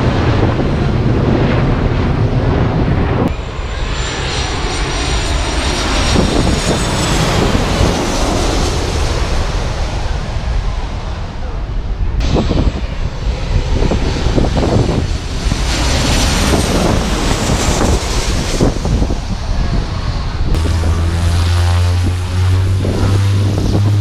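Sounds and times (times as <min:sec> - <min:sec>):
aircraft engines droning: 0:00.0 - 0:24.0
jet airliner passing overhead: 0:00.0 - 0:24.0
wind buffeting microphone: 0:00.0 - 0:24.0.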